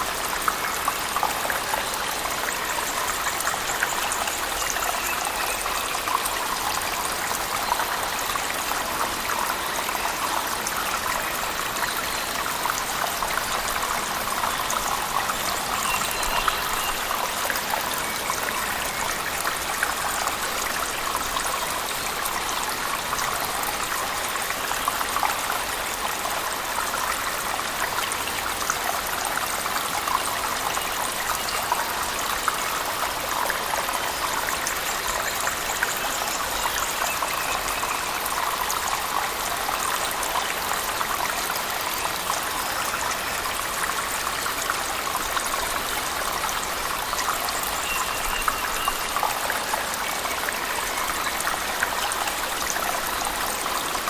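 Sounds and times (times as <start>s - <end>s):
waterfall: 0.0s - 54.0s.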